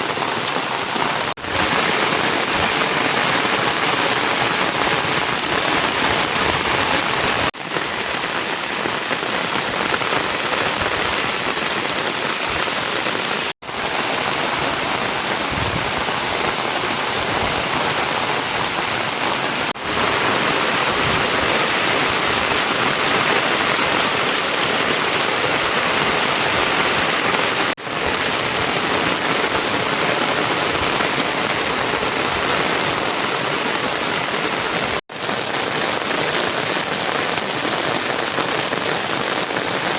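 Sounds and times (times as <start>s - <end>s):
loud rainfall hissing: 0.0s - 39.9s.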